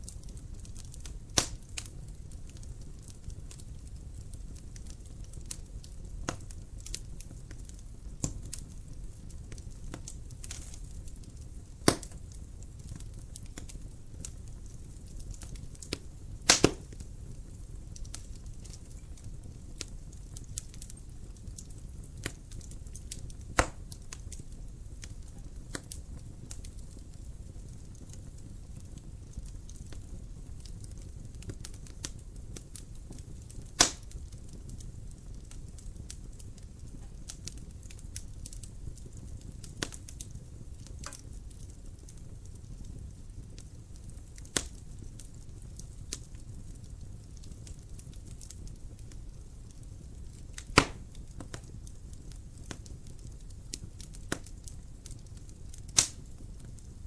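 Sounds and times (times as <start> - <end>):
fire pops: 0.0 - 57.0
wood fire crackling: 0.0 - 57.0.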